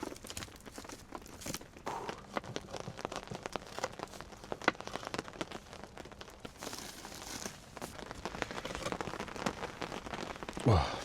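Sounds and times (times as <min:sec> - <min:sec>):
rain dripping and tapping: 0:00.0 - 0:11.0.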